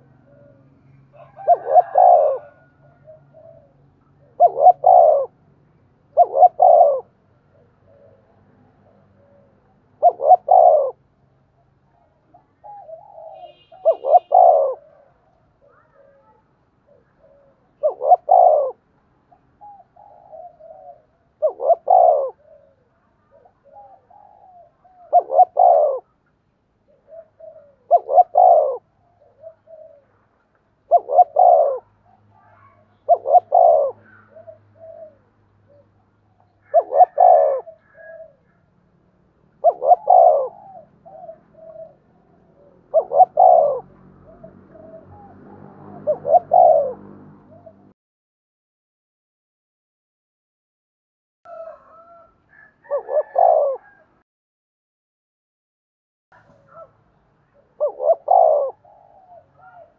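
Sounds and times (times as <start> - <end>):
dove cooing: 0.0 - 5.4, 6.1 - 11.0, 11.9 - 26.2, 26.8 - 38.7, 39.5 - 47.9, 51.5 - 54.2, 56.4 - 56.9, 57.5 - 59.9.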